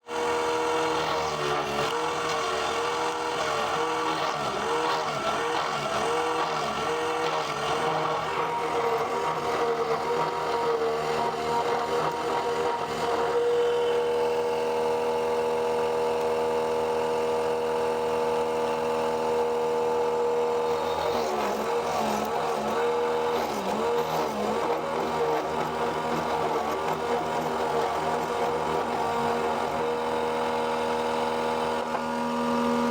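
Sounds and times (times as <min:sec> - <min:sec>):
woodworking machine motor humming: 0:00.0 - 0:32.9.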